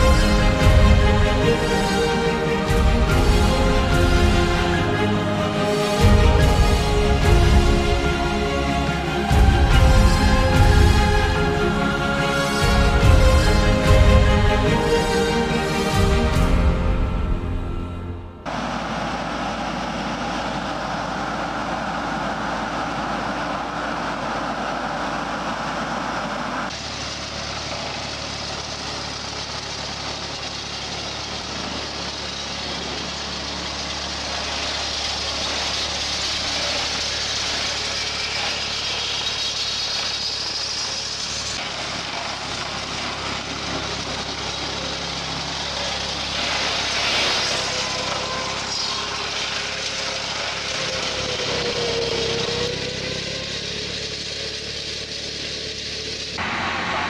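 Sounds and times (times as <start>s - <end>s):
farm machinery engines running: 0.0s - 57.0s.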